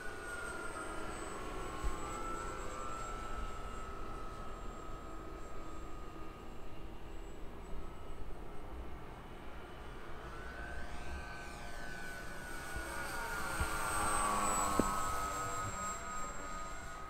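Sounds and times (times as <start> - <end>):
model airplane motor whine: 0.0 - 17.0.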